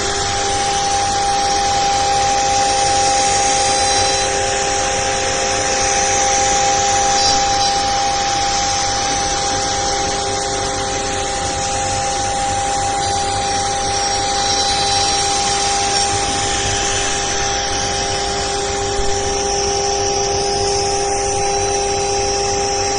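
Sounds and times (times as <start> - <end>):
cnc router spindle whine: 0.0 - 22.9
machining hiss: 0.0 - 22.9.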